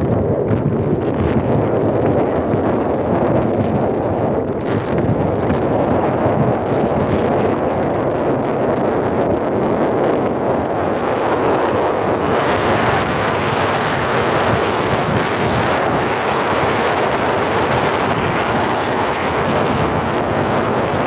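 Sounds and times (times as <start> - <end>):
wind blowing over microphone: 0.0 - 21.0.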